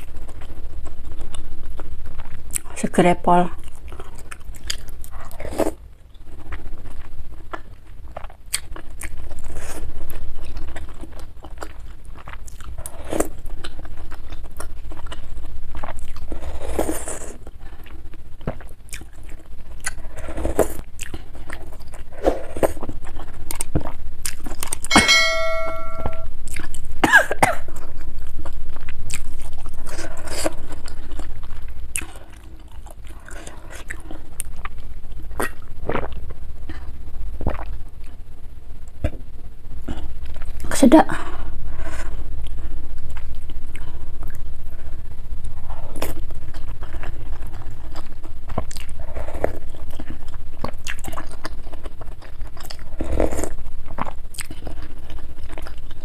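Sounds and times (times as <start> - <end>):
chewing: 0.0 - 2.8, 3.5 - 24.9, 26.4 - 26.9, 27.5 - 38.2, 39.8 - 56.0.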